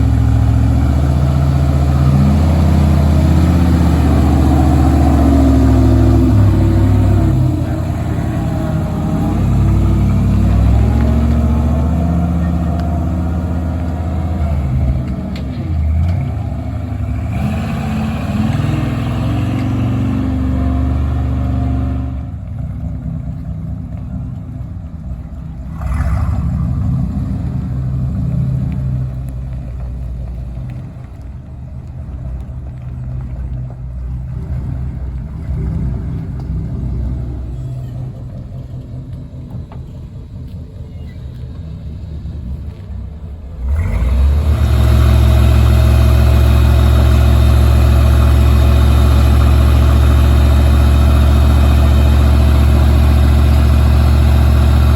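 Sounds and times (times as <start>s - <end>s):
large vehicle engine running: 0.0s - 54.9s.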